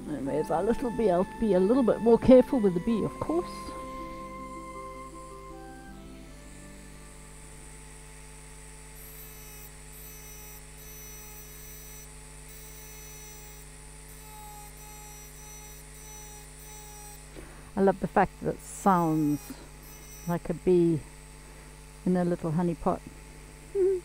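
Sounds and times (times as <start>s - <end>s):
engraving tool humming and whining: 0.0s - 23.8s.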